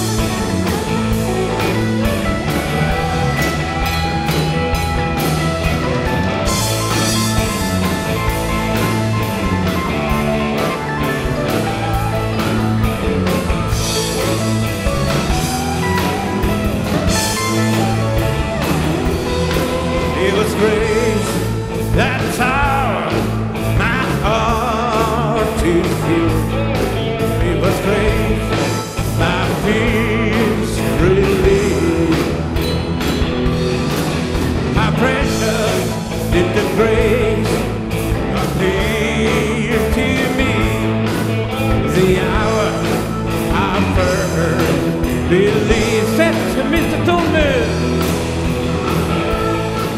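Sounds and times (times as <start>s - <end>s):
rock music with singer: 0.0s - 49.9s.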